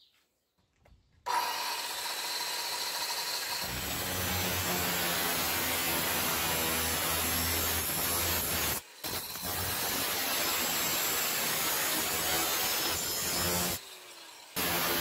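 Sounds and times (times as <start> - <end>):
angle grinder cutting metal: 1.3 - 15.0.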